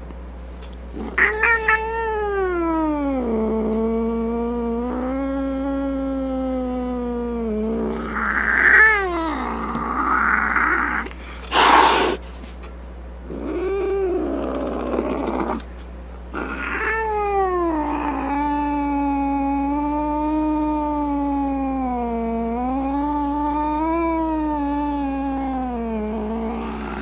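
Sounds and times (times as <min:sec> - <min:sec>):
cat hissing: 0:00.9 - 0:12.3, 0:13.3 - 0:15.7, 0:16.3 - 0:27.0
cat yowling and growling: 0:01.0 - 0:12.2, 0:13.3 - 0:15.7, 0:16.3 - 0:27.0.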